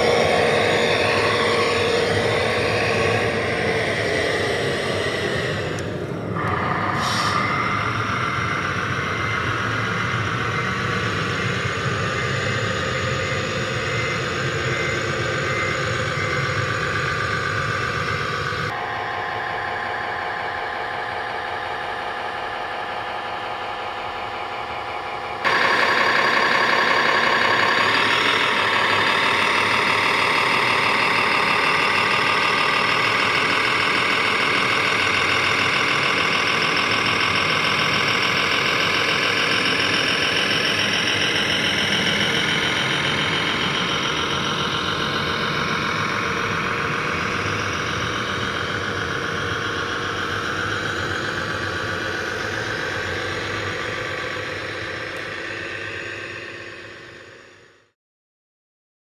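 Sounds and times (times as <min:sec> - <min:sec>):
model dump truck engine running: 0:00.0 - 0:57.9.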